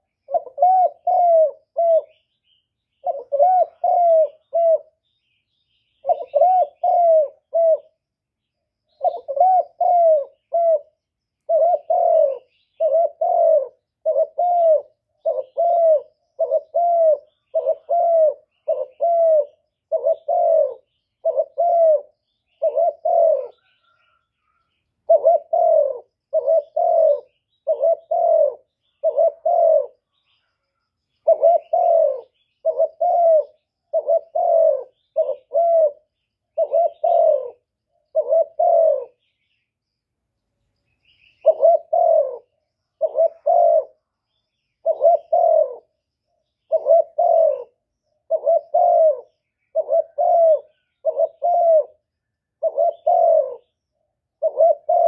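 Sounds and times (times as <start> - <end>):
dove cooing: 0.0 - 8.1, 8.9 - 39.4, 41.3 - 55.0.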